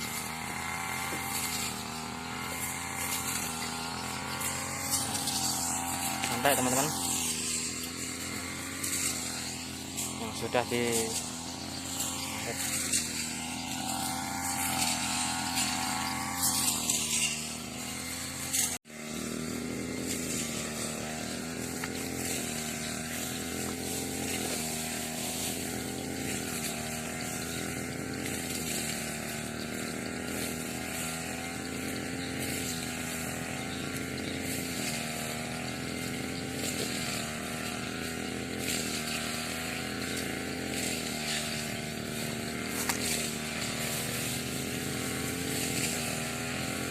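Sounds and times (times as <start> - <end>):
brush cutter engine cutting grass: 0.0 - 46.9.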